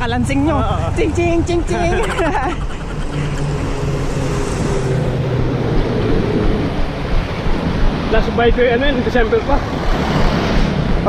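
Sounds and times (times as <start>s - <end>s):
vehicle engine hum: 0.0s - 11.0s
wind noise on microphone: 1.4s - 11.0s.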